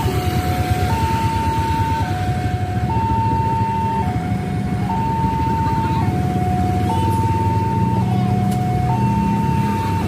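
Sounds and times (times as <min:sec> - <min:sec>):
vehicle engine running: 0:00.0 - 0:10.0
level crossing two-tone alarm: 0:00.6 - 0:10.0.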